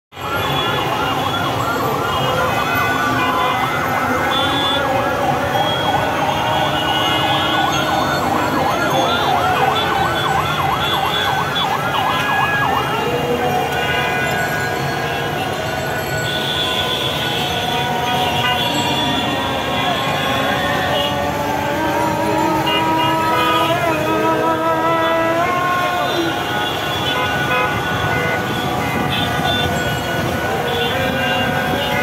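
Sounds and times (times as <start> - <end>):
fire engine siren yelp: 0.1 - 32.0
street noise: 0.1 - 32.0.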